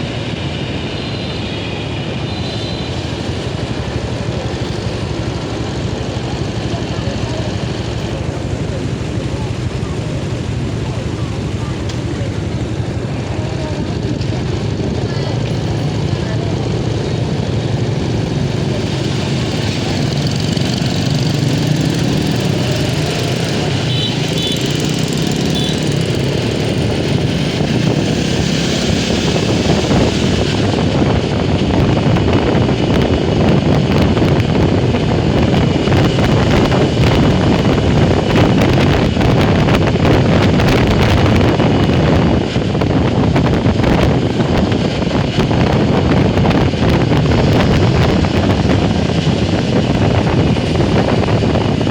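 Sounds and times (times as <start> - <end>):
wind buffeting microphone: 1.8 - 51.9
motorcycle engine running: 2.4 - 51.9.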